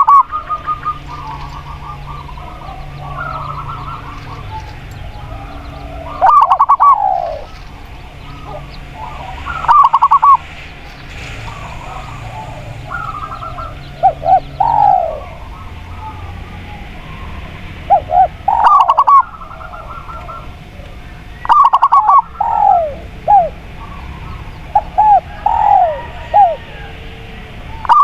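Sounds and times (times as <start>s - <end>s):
doves cooing: 0.0s - 28.0s
small birds chirping: 0.0s - 28.0s.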